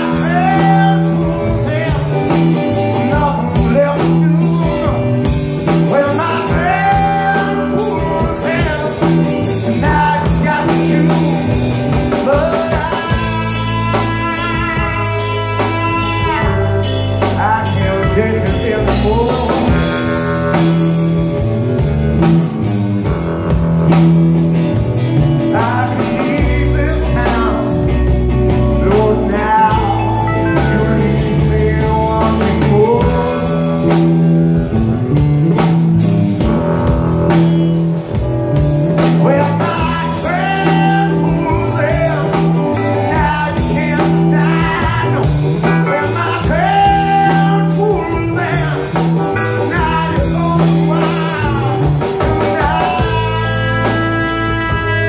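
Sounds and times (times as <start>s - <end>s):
person singing: 0.0s - 21.6s, 25.2s - 34.8s, 38.9s - 55.0s
drum kit: 0.0s - 55.0s
electric guitars: 0.0s - 55.0s
electric keyboard: 0.0s - 55.0s.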